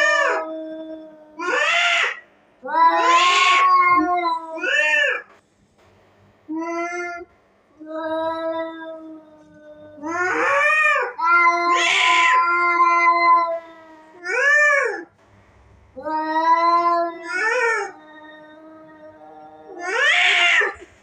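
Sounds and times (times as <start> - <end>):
cat hissing: 0.0 - 5.3, 7.8 - 15.1, 16.0 - 21.0
cats yowling: 0.0 - 5.3, 6.5 - 15.1, 16.0 - 20.9.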